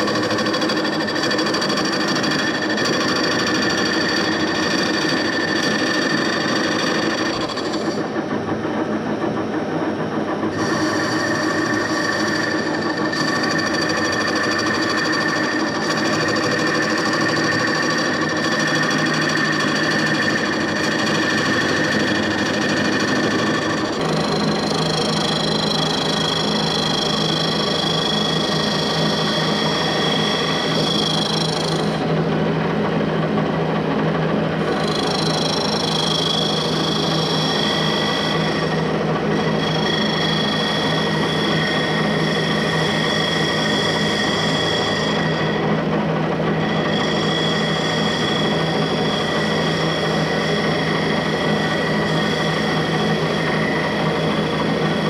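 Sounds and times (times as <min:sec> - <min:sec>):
lathe whining while turning wood: 0:00.0 - 0:55.0.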